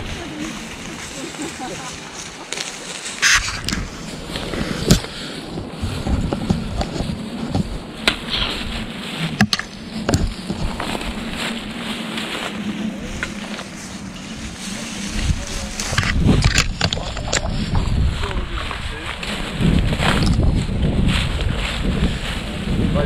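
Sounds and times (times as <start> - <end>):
branches snapping: 0.0 - 22.6
footsteps through leaves: 0.0 - 23.0.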